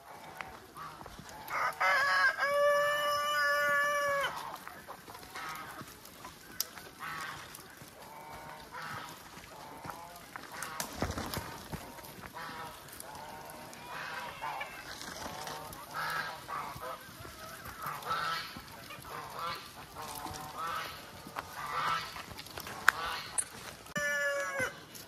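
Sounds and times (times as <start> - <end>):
chickens calling: 0.0 - 25.0.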